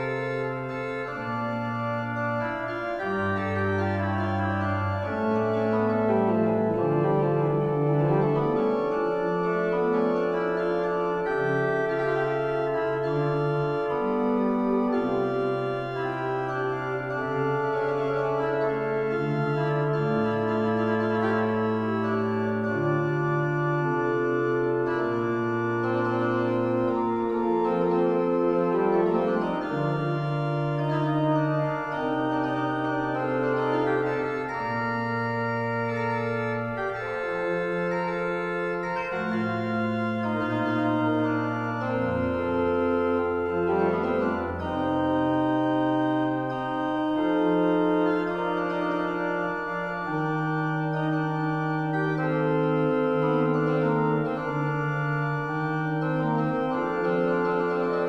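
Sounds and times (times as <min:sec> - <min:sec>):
pipe organ playing: 0:00.0 - 0:58.0.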